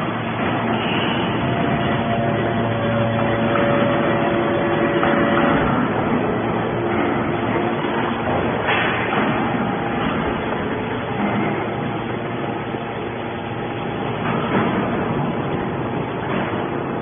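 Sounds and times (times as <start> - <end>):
hydraulic baler motor droning: 0.0 - 17.0.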